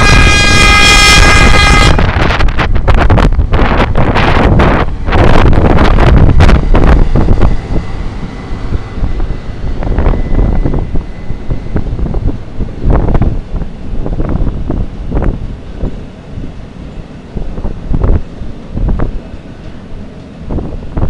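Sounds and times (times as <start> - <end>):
diesel locomotive engine rumble: 0.0 - 21.0
wind buffeting microphone: 0.0 - 21.0.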